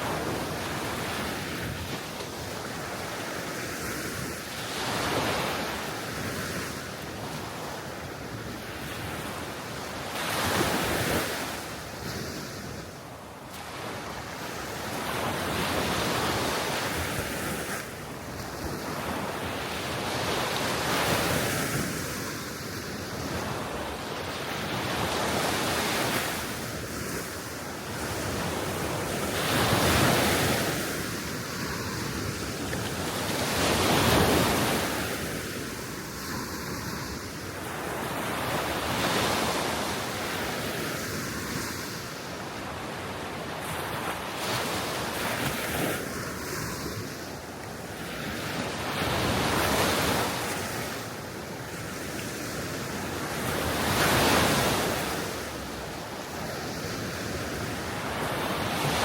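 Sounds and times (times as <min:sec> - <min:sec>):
small waves washing onto shore: 0:00.0 - 0:59.0.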